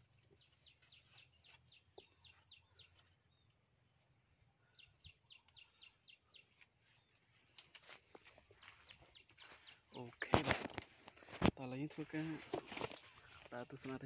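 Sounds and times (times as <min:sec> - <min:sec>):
faint bird song: 0:00.0 - 0:14.0.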